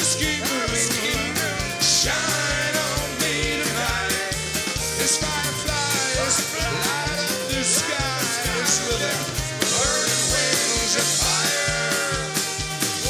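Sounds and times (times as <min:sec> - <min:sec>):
electric guitar: 0:00.0 - 0:13.0
person singing: 0:00.0 - 0:13.0
steady drum beat: 0:00.0 - 0:13.0.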